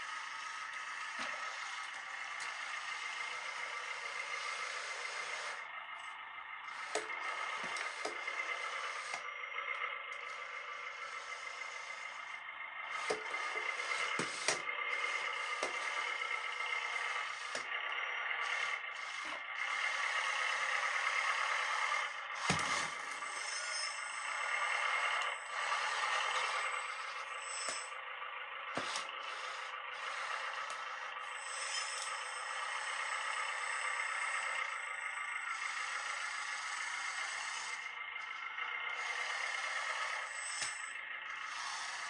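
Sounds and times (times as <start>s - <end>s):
small electric motors whirring: 0.0s - 42.0s.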